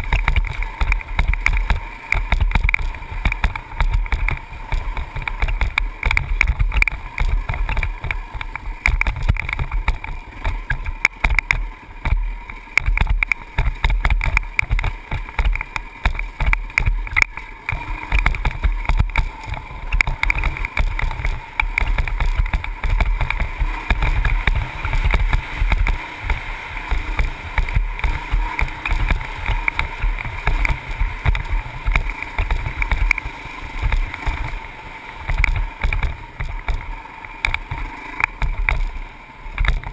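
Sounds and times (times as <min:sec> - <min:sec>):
dirt bike engine running: 0:00.0 - 0:39.9
wind buffeting on microphone: 0:00.0 - 0:39.9.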